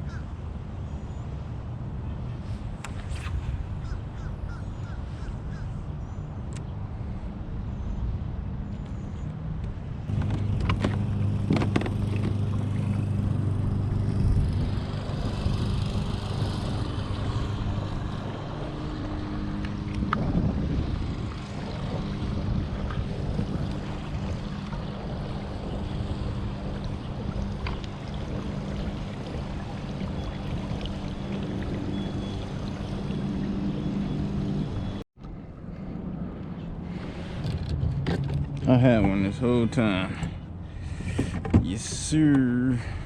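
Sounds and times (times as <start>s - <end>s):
low motor hum: 2.5s - 43.0s.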